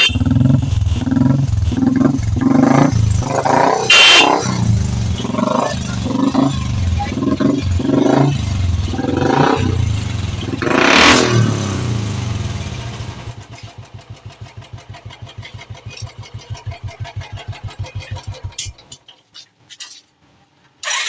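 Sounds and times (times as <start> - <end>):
motorcycle engine revving and idling: 0.0 - 19.0.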